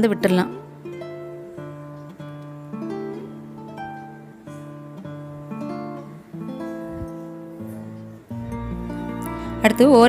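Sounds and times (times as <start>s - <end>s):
acoustic guitar picking: 0.0s - 10.0s.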